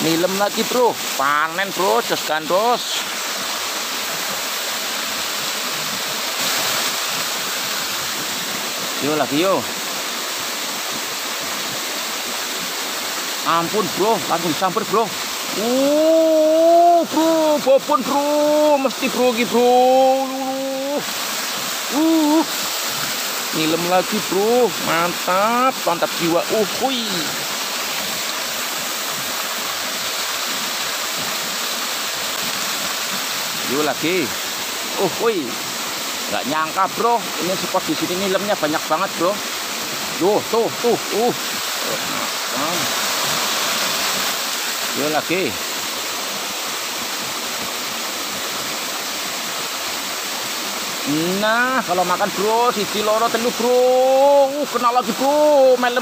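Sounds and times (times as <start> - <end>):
water pouring into pool: 0.0 - 56.0.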